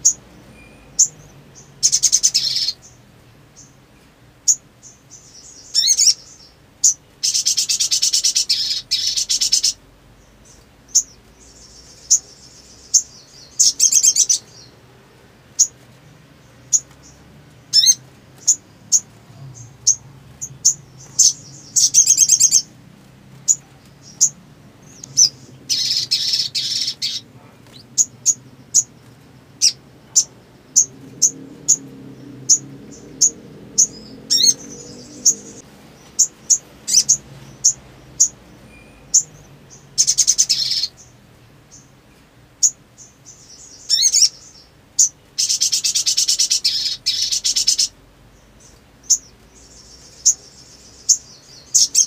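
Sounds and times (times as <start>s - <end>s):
sunbird singing: 0.0s - 52.0s.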